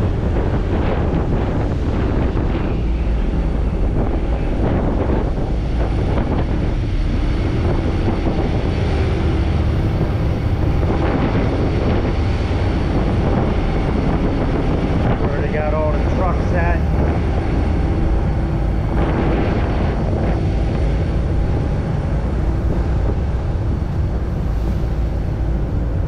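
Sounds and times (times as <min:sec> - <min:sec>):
ferry engines droning: 0:00.0 - 0:26.0
wind buffeting microphone: 0:00.0 - 0:26.0.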